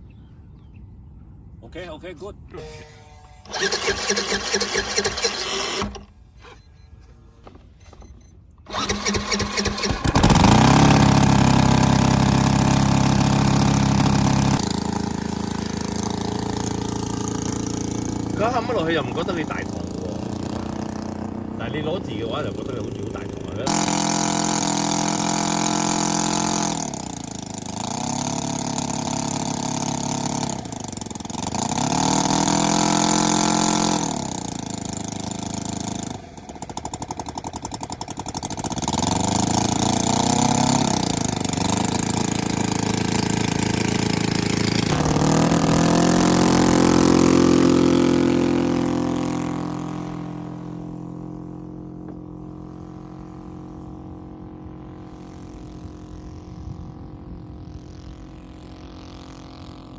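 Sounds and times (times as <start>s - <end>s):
model plane engine revving: 2.6s - 6.8s, 7.9s - 59.9s.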